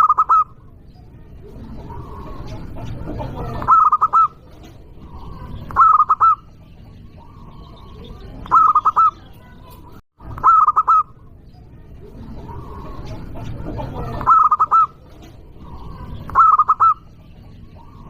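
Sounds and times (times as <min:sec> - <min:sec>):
dove cooing: 0:00.0 - 0:00.7, 0:01.4 - 0:09.2, 0:10.3 - 0:11.3, 0:12.0 - 0:18.0.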